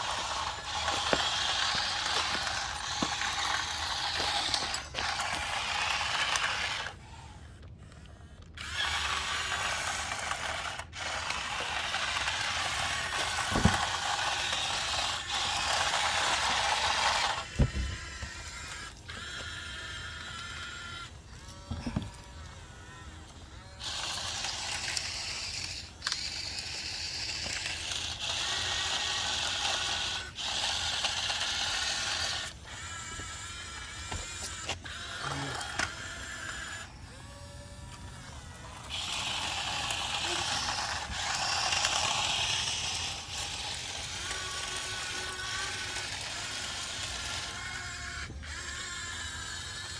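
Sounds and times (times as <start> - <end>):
small geared motor whirring: 0.0 - 49.9.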